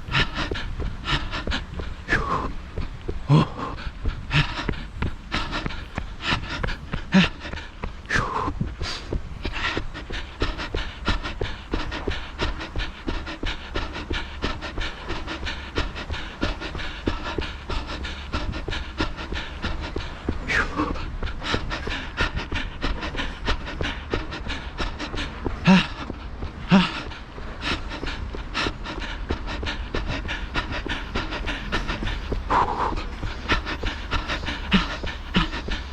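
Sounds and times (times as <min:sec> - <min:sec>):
runner breathing hard: 0:00.0 - 0:35.9
running footfalls: 0:00.0 - 0:35.9.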